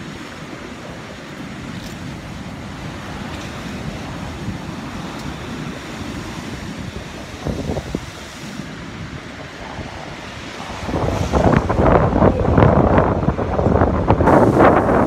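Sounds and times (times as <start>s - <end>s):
surf breaking on rocky shore: 0.0s - 15.0s
wind buffeting microphone: 0.0s - 15.0s.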